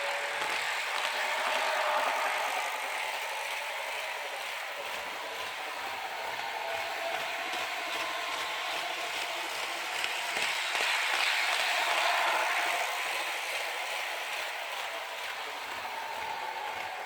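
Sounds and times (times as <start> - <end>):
model train rolling and gear noise: 0.0 - 17.0.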